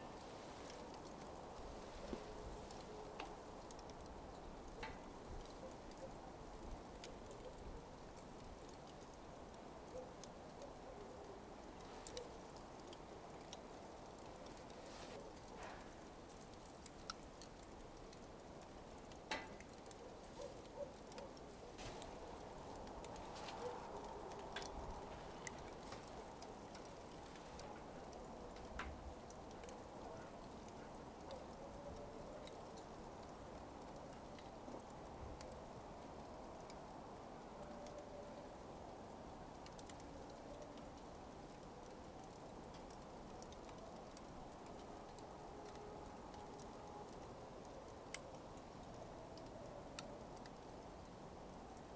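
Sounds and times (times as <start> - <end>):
burning coals crackling: 0.0 - 51.9
low steady hiss: 0.0 - 51.9
soft low rush of fire: 0.0 - 51.9.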